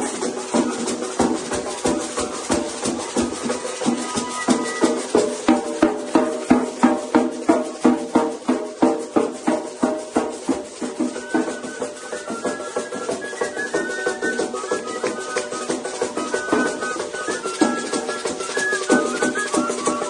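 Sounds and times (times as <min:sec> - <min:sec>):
drums: 0:00.0 - 0:20.0
wooden clappers clacking: 0:00.0 - 0:20.0.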